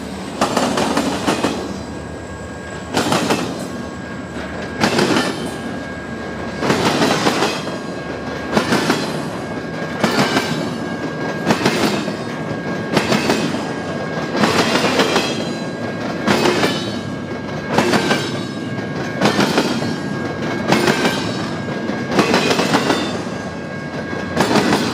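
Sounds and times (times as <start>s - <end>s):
freight train rumble: 0.0s - 24.9s
train wheels clacking: 0.0s - 24.9s.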